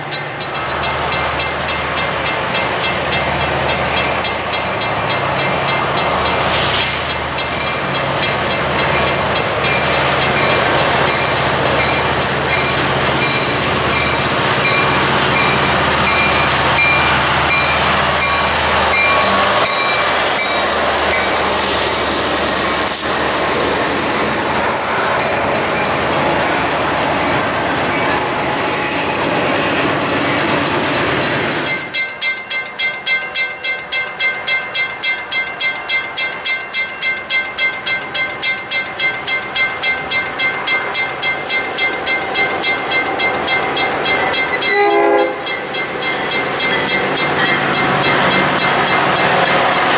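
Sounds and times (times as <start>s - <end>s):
crossing bell ringing rapidly: 0.0s - 49.9s
freight train passing: 0.0s - 49.9s.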